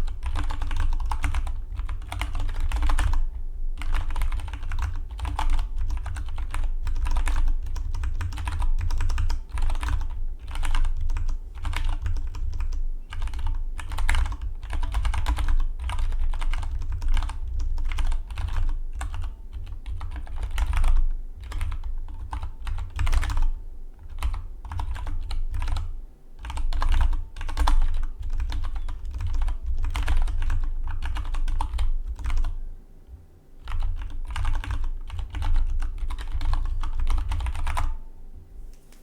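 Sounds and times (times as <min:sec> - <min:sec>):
mechanical keyboard typing: 0:00.0 - 0:32.6, 0:33.6 - 0:38.0.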